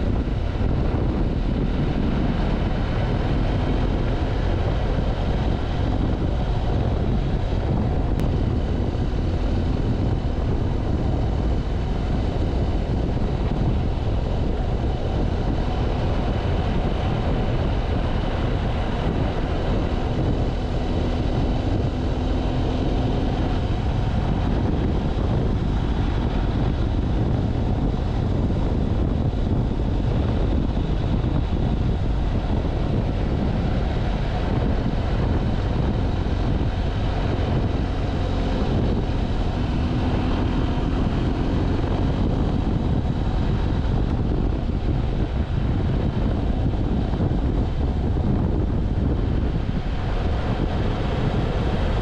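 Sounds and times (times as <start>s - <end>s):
motorcycle engine running: 0.0s - 52.0s
wind rushing on microphone: 0.0s - 52.0s.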